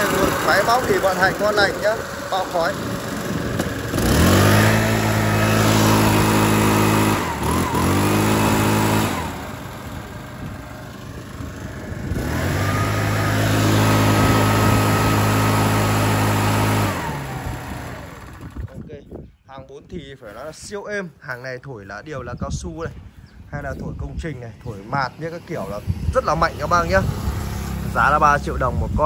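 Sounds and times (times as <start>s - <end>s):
leaf blower engine revving: 0.0s - 18.9s, 24.6s - 29.0s.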